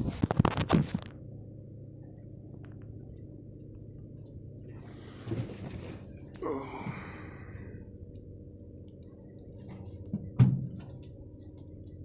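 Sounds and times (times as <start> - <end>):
muffled boat engine hum: 0.0 - 12.0.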